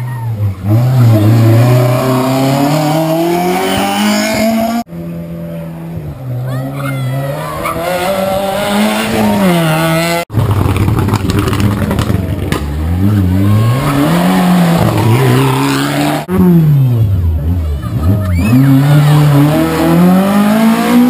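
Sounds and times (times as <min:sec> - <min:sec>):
rally car engines at full throttle: 0:00.0 - 0:21.0.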